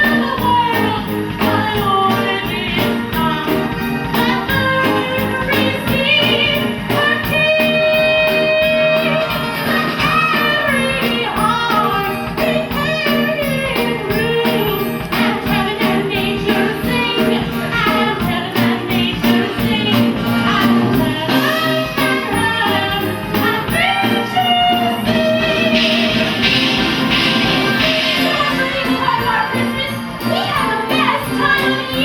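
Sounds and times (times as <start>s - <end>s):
live band christmas music: 0.0s - 32.0s.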